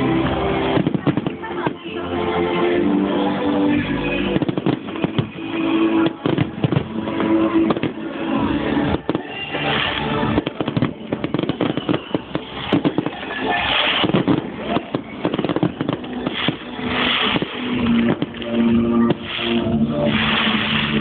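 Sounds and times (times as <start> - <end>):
fireworks bangs and crackling: 0.0 - 2.0, 3.1 - 21.0
music playing: 0.0 - 21.0.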